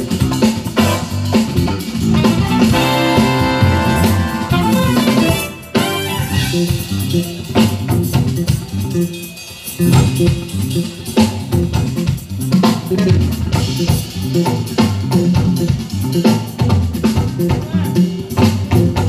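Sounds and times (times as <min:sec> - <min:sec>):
drums: 0:00.0 - 0:19.0
electric bass guitar: 0:00.0 - 0:19.0.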